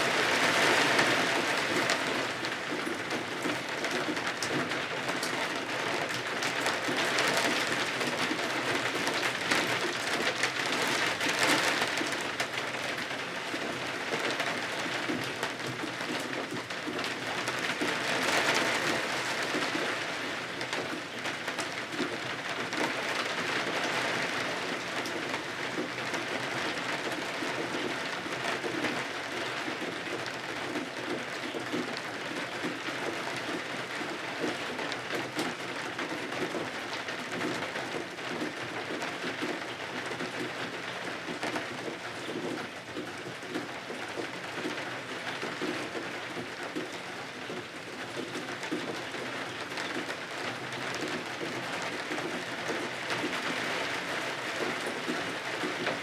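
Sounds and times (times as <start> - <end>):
rain pattering on windows: 0.0 - 56.0.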